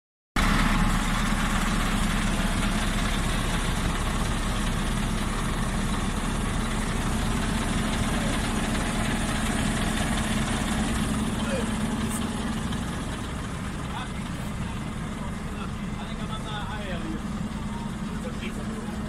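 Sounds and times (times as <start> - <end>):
truck diesel engine idling: 0.4 - 19.0.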